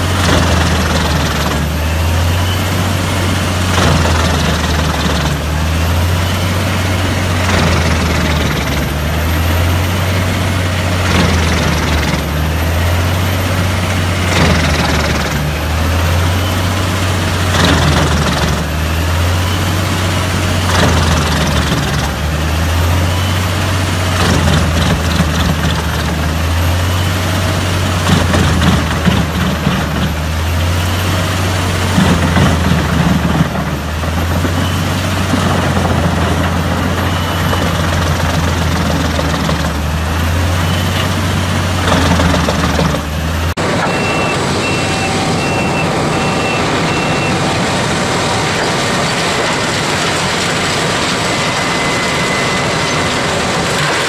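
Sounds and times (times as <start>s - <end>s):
wood chipper and tractor drone: 0.0s - 54.0s
wood chipper crunching logs: 0.0s - 54.0s.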